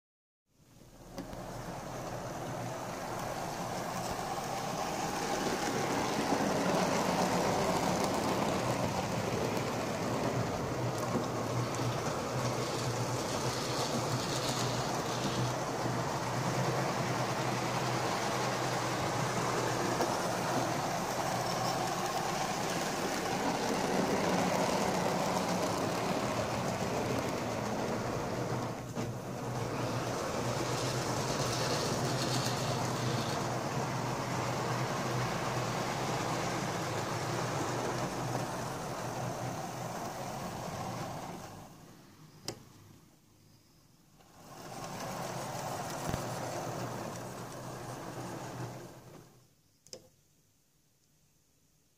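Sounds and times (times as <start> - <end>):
model train motor whirring: 1.2 - 41.7, 44.2 - 49.3
wheels rattling over rails: 1.2 - 41.8, 44.2 - 49.4.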